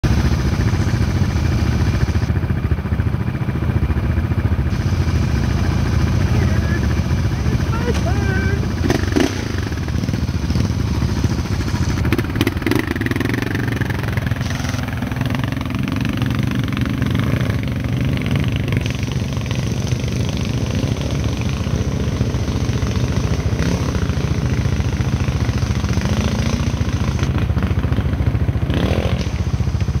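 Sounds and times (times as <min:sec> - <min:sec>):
atv engines revving: 0:00.0 - 0:30.0.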